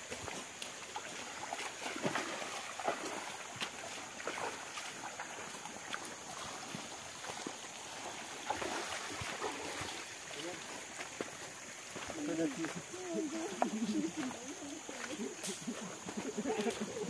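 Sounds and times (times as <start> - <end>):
footsteps splashing through stream: 0.0 - 17.0
running water: 0.0 - 17.0.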